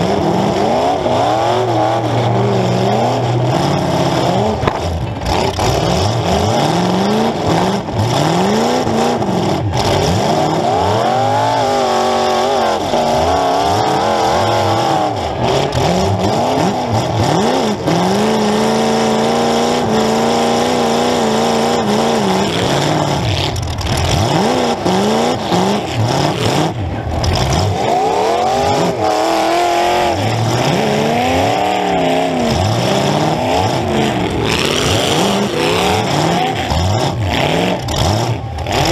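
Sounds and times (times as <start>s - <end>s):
car engine revving hard: 0.0s - 38.9s.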